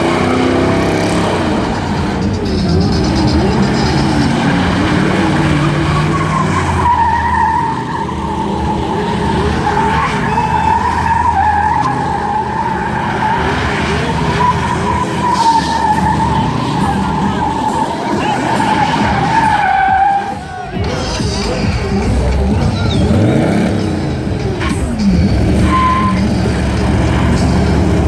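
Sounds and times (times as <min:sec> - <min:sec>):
car engine running: 0:00.0 - 0:28.0
tires squealing on pavement: 0:00.0 - 0:28.0.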